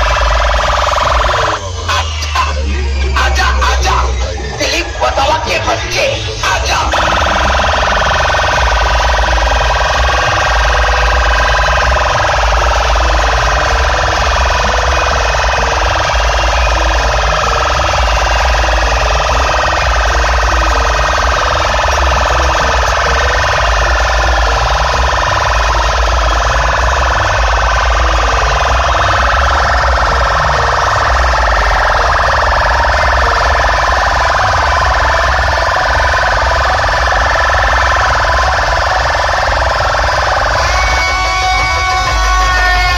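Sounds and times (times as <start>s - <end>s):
heavy pulsing bass: 0.0s - 42.9s
siren-like wail: 0.0s - 42.9s.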